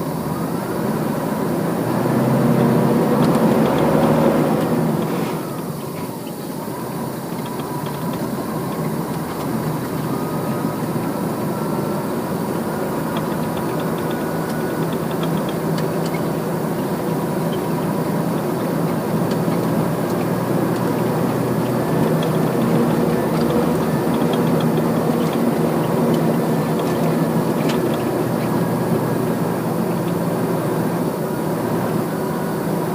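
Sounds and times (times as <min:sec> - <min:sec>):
harvest machinery engine drone: 0:00.0 - 0:32.9.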